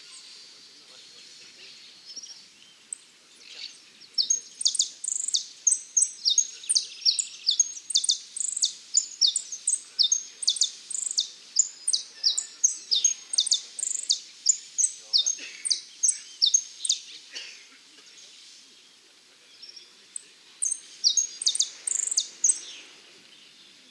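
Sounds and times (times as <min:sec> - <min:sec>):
songbird singing: 0:00.0 - 0:23.9.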